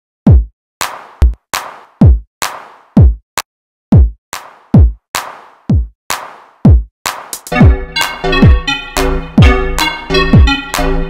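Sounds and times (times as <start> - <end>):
drum machine kicks: 0.2 - 3.2, 3.9 - 8.7, 9.4 - 10.7.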